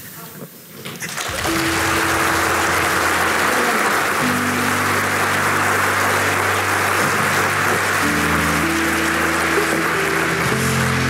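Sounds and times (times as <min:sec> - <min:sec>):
audience applauding: 0:01.0 - 0:11.0
music of low held notes: 0:01.4 - 0:11.0.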